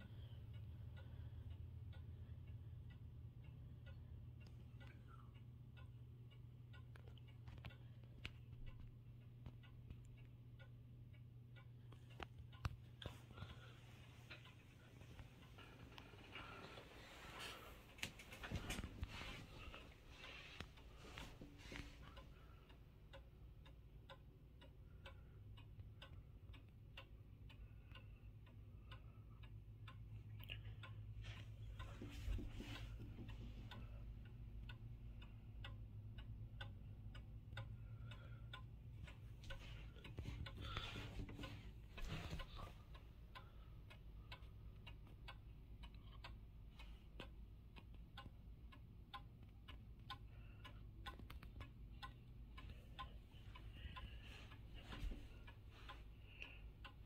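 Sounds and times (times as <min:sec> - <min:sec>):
clock ticking faintly: 0:00.0 - 0:57.0
steady low hum: 0:00.0 - 0:57.0.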